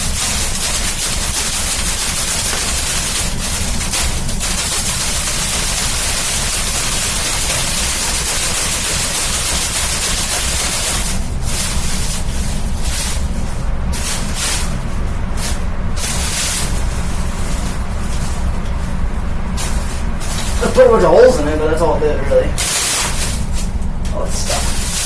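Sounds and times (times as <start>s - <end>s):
box fan rumble: 0.0s - 25.0s
plastic bag rustling in fan blades: 0.0s - 25.0s.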